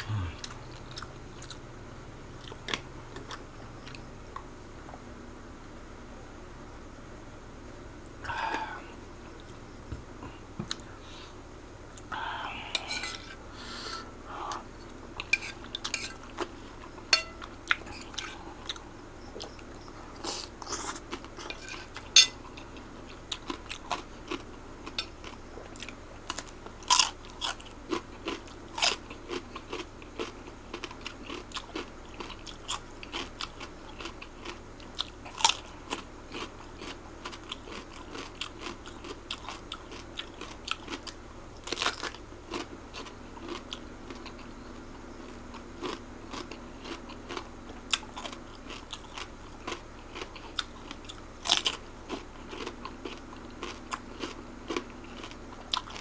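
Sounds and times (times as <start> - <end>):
person chewing: 0.0 - 1.6, 2.4 - 4.5, 12.0 - 56.0.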